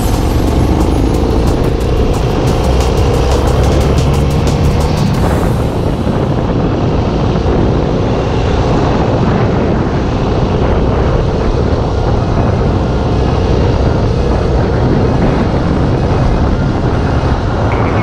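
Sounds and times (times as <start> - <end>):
motorcycle engine running: 0.0 - 7.9, 8.8 - 18.0
wind noise on microphone: 0.0 - 18.0.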